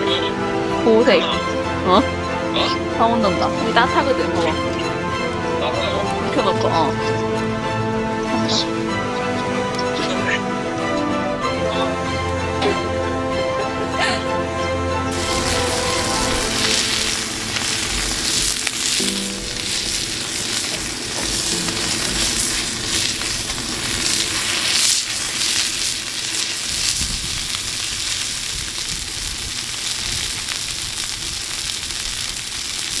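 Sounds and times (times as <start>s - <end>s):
faint music: 0.0s - 27.0s
sizzling and crackling: 0.0s - 33.0s.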